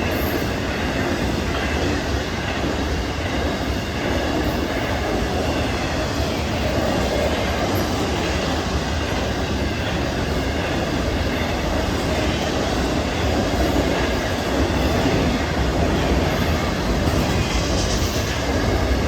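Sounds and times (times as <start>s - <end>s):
train wheels rolling on track: 0.0s - 19.0s.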